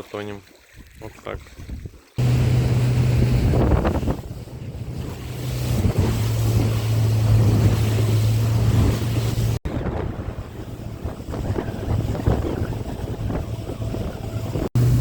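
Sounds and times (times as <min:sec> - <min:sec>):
water rushing past hull: 0:00.0 - 0:15.0
wind buffeting microphone: 0:00.7 - 0:15.0
outboard motor running: 0:02.2 - 0:15.0.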